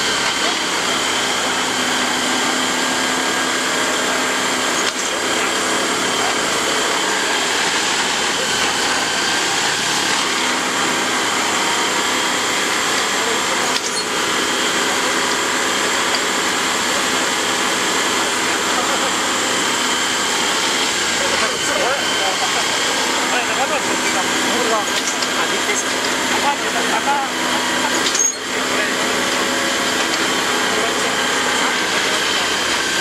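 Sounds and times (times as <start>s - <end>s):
machine engine and hydraulics: 0.0s - 33.0s.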